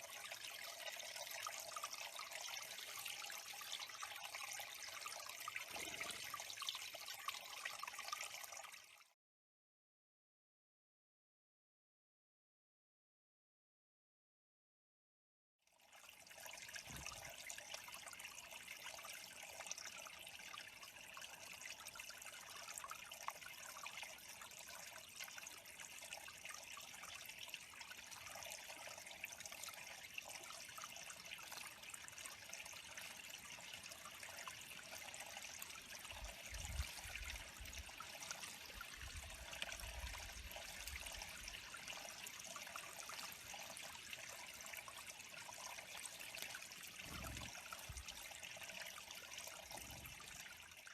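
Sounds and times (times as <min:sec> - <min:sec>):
water trickling into pond: 0:00.0 - 0:09.2, 0:15.6 - 0:50.9.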